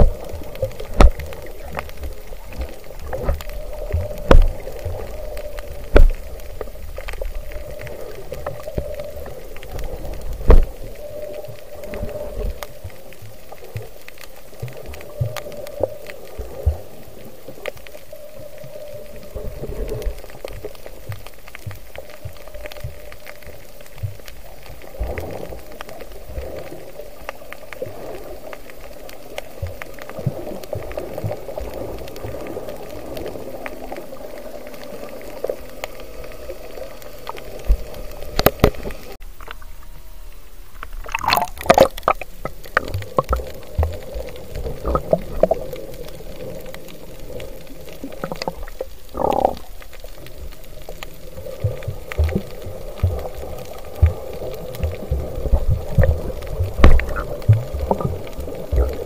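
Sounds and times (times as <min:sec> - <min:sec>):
muffled underwater water noise: 0:00.0 - 0:59.0.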